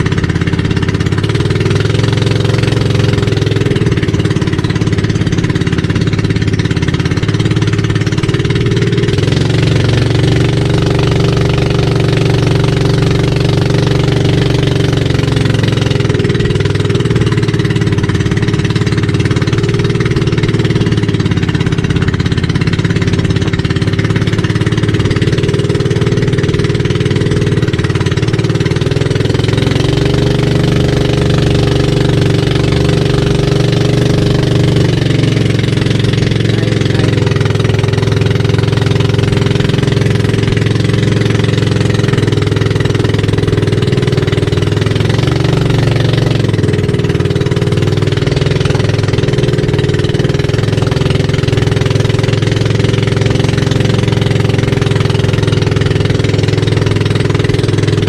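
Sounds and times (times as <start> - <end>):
boat engine running: 0.0 - 58.0
water splashing along hull: 0.0 - 58.0.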